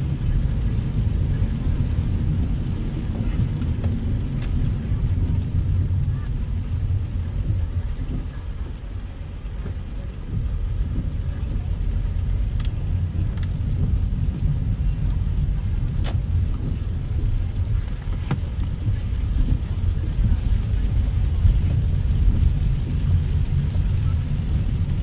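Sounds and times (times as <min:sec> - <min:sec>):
car engine and tyres on wet road: 0:00.0 - 0:25.0.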